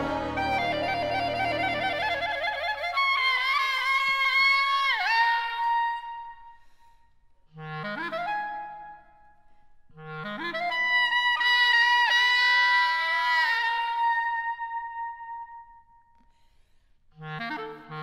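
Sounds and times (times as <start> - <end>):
solo clarinet: 0.0 - 6.8, 7.5 - 16.3, 17.2 - 18.0.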